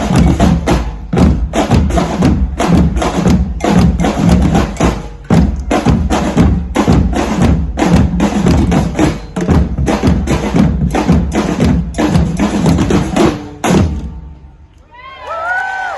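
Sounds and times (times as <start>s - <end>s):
drumming group playing: 0.0s - 14.3s.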